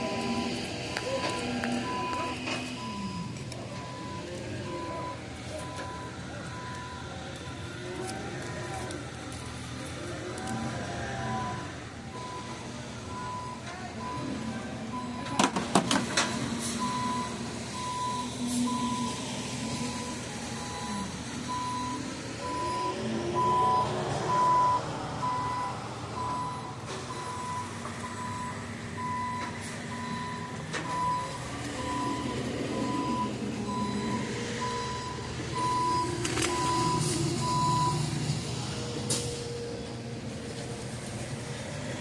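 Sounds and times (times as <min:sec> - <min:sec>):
engine running: 0:00.0 - 0:42.0
vehicle reversing alarm beeping: 0:00.0 - 0:42.0.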